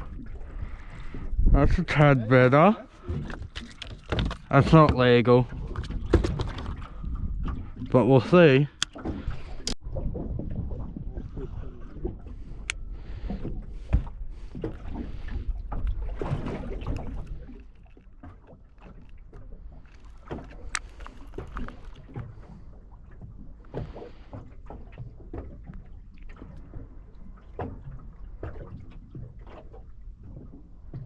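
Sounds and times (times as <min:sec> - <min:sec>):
water lapping against boat hull: 0:00.0 - 0:31.0.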